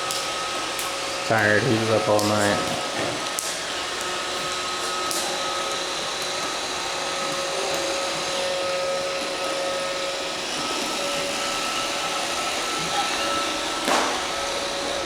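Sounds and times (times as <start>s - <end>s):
robot vacuum motor whir: 0.0s - 15.0s.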